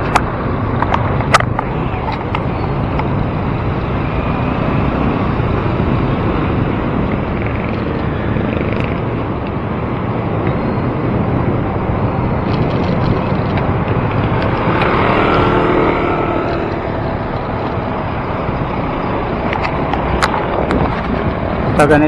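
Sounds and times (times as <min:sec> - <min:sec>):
traffic and road noise: 0:00.0 - 0:22.0.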